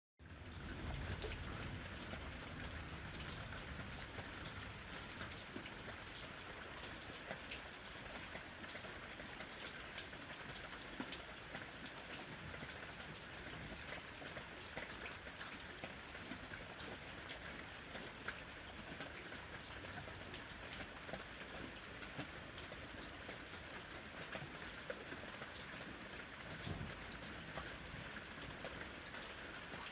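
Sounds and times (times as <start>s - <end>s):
steady rain patter: 0.2s - 29.9s.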